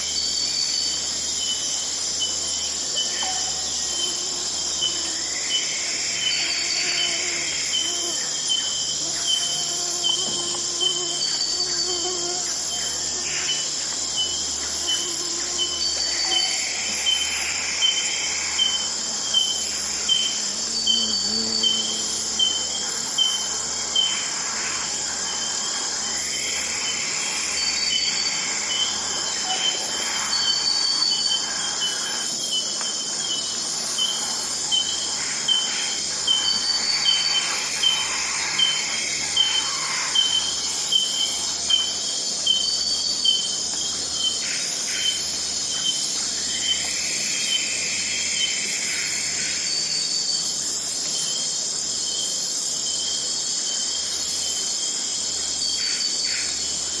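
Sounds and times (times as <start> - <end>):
insects and crickets chorus: 0.0 - 57.0.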